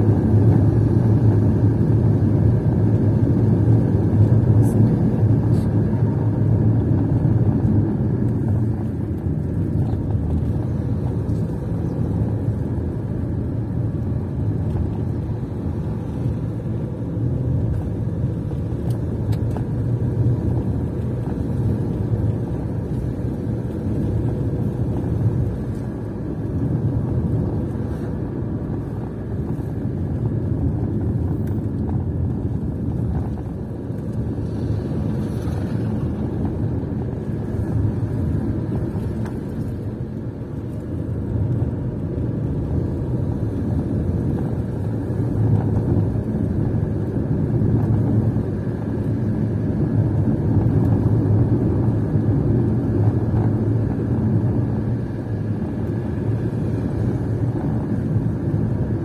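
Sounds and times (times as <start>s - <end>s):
car engine driving: 0.0s - 59.0s
road noise: 0.0s - 59.0s.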